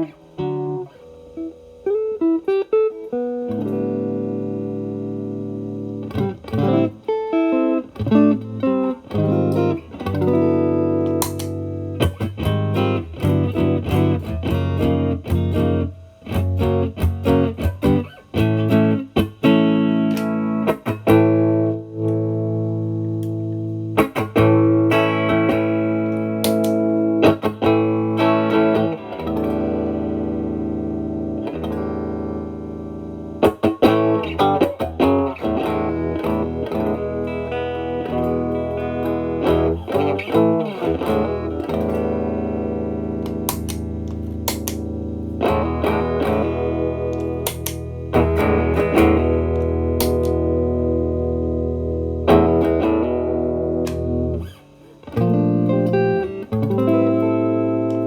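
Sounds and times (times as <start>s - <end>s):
electric guitar notes and chords: 0.0s - 58.0s.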